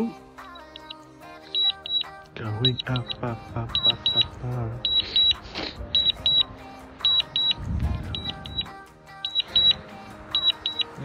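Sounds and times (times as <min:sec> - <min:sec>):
electronic warning beeps: 0:00.4 - 0:11.0.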